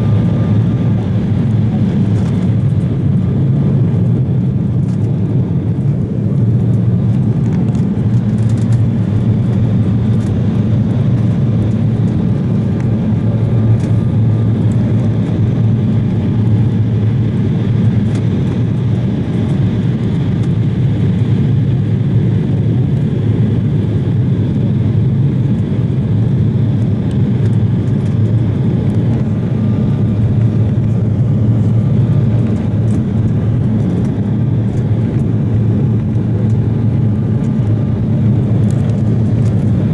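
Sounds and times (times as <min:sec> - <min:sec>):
jet cabin engine roar: 0:00.0 - 0:39.9.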